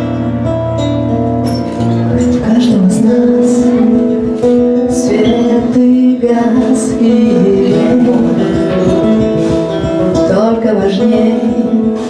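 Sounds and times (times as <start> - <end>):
acoustic guitar: 0.0 - 12.0
person singing long notes: 2.2 - 12.0.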